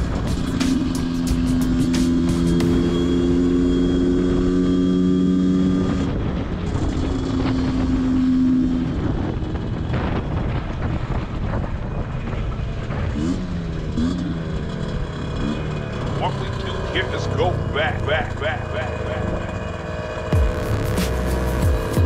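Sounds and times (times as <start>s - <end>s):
two-stroke motorcycle engine: 0.0s - 22.0s
wind and road noise: 0.0s - 22.0s.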